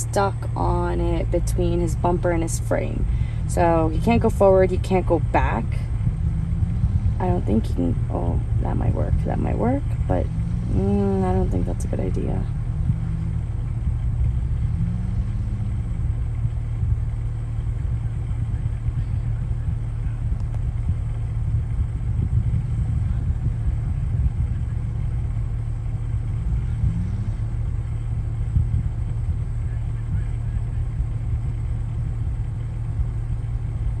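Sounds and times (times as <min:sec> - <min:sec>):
engine rumbling: 0:00.0 - 0:34.0.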